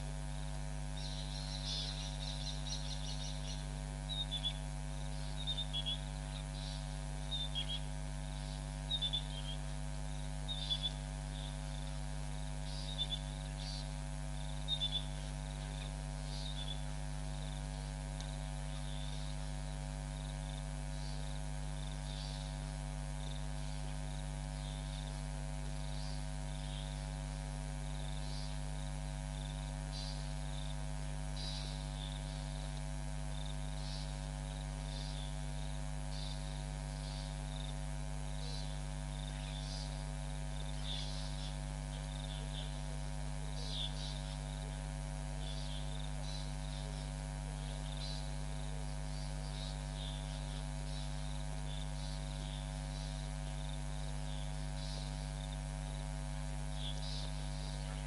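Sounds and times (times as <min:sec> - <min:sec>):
electrical mains hum: 0:00.0 - 0:58.0
wildlife chirps: 0:00.4 - 0:27.2, 0:27.9 - 0:58.0.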